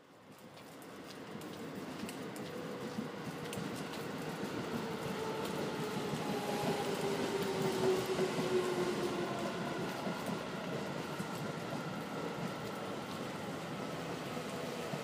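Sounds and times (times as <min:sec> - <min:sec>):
electric train approaching: 0:01.3 - 0:15.0.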